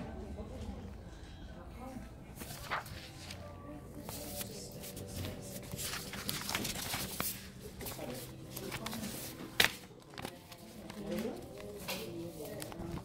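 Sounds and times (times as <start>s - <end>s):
faint indistinct voices: 0.0s - 13.0s.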